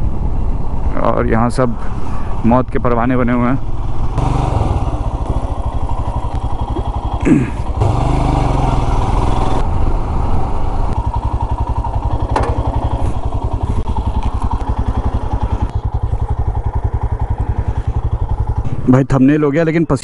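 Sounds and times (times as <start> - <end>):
motorcycle engine running: 1.9 - 20.0.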